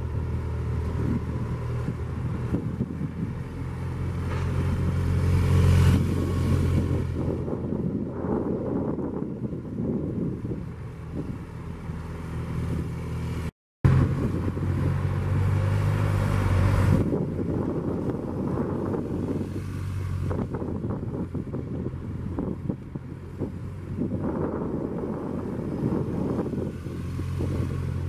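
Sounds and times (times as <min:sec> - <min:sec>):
wind buffeting microphone: 0:00.0 - 0:13.1, 0:13.9 - 0:28.0.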